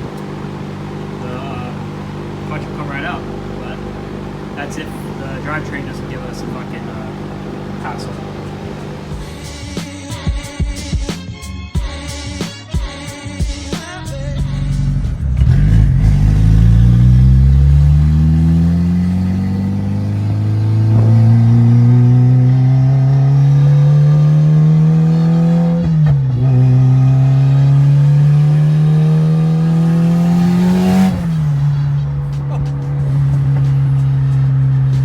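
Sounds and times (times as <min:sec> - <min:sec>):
car engine pulling under load: 0:00.0 - 0:10.2, 0:14.0 - 0:35.0.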